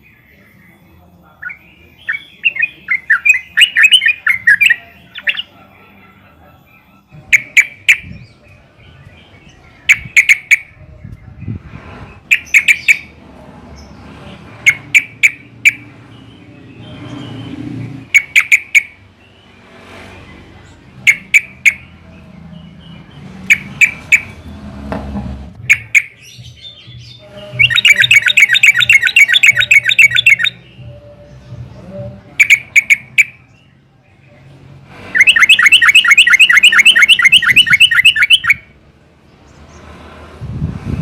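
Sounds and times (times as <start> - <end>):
bird chirping and chattering: 0.0 - 13.2, 13.8 - 24.6, 25.6 - 30.9, 32.3 - 34.5, 35.1 - 38.7.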